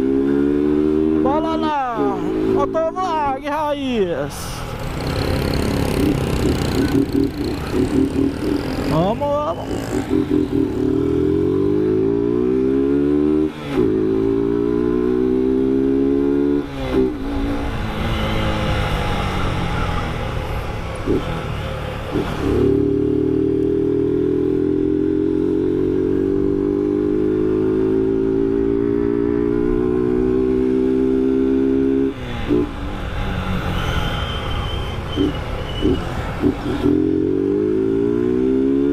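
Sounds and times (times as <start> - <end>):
motorcycle engine accelerating: 4.8 - 38.9.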